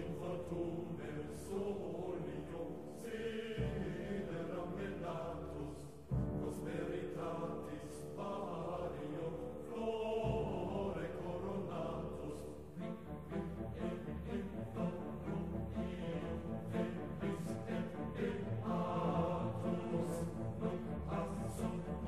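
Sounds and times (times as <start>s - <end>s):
chanting voices: 0.0s - 22.0s.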